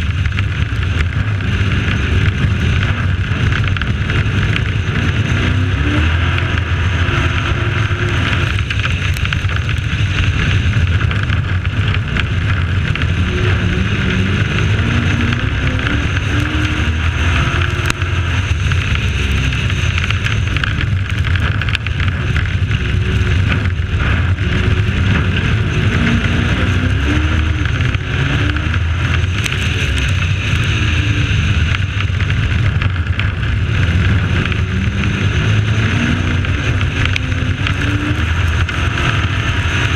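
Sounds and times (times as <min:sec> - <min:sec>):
truck engine revving: 0:00.0 - 0:39.9
wind rushing over microphone: 0:00.0 - 0:39.9.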